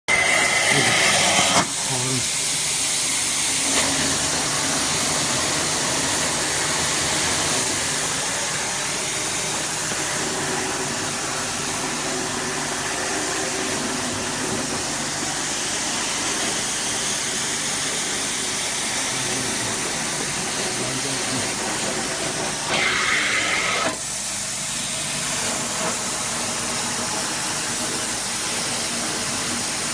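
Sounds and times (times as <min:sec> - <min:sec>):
carpet cleaning machine hissing: 0:00.1 - 0:29.9.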